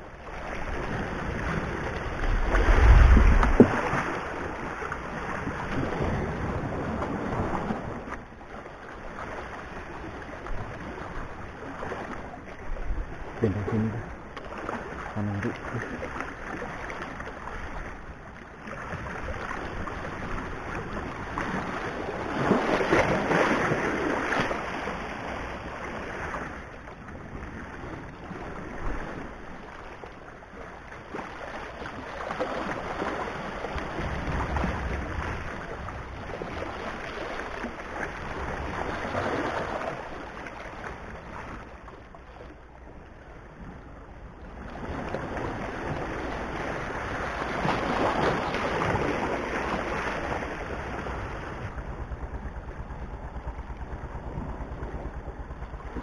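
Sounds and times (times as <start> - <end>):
waves washing against rocks: 0.0 - 30.0, 31.0 - 41.7, 44.6 - 52.6.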